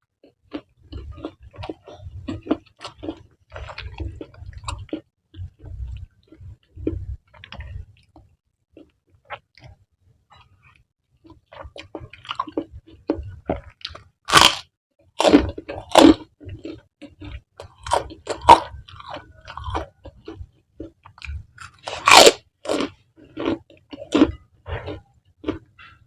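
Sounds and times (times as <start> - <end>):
chewing and biting noodles: 0.2 - 9.8, 10.4 - 26.0.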